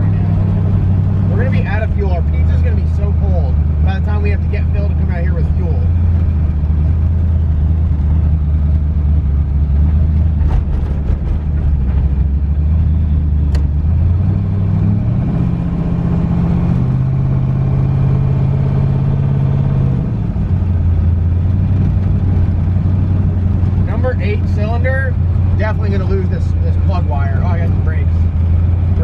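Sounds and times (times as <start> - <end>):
car exhaust drone: 0.0 - 29.0.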